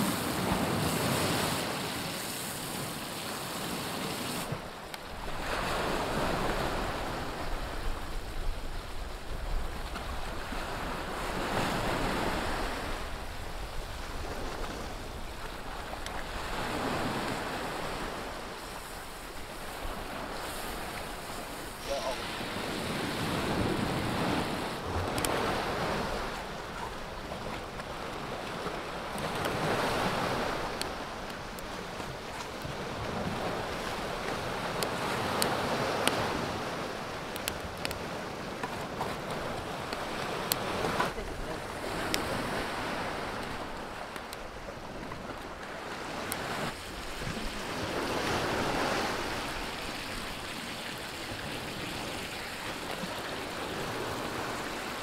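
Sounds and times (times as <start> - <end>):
waves washing against rocks: 0.0 - 55.0.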